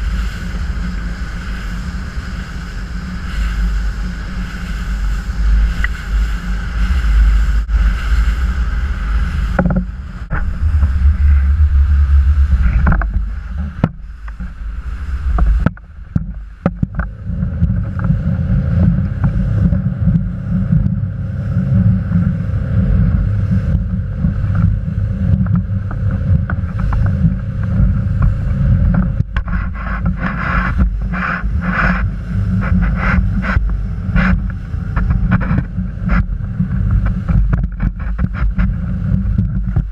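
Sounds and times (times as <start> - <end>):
hull and water noise: 0.0 - 39.9
wind rumble on microphone: 0.0 - 39.9.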